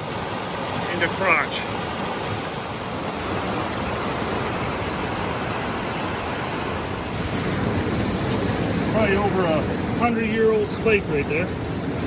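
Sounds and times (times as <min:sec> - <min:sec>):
water rushing through dam: 0:00.0 - 0:12.0.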